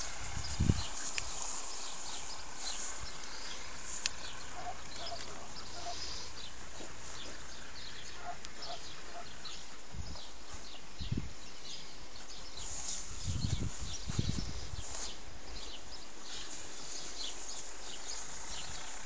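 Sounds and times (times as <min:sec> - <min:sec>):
distant calls: 0:00.0 - 0:13.4, 0:14.0 - 0:19.0
bird chirps: 0:00.0 - 0:19.0
steady low rumble: 0:00.0 - 0:19.0.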